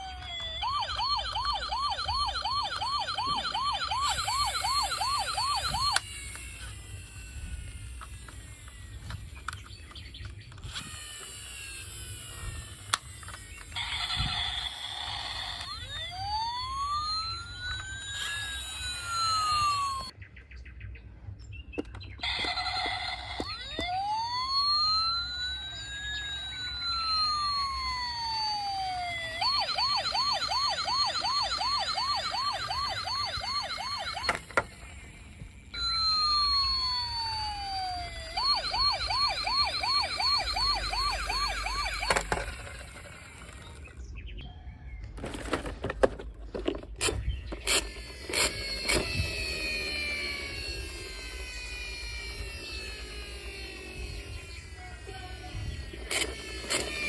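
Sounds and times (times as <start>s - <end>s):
falling electronic tones: 0.0s - 9.9s, 10.6s - 20.1s, 22.2s - 44.6s, 47.4s - 57.0s
toy siren wailing and yelping: 0.0s - 20.2s, 21.8s - 45.8s, 46.6s - 57.0s.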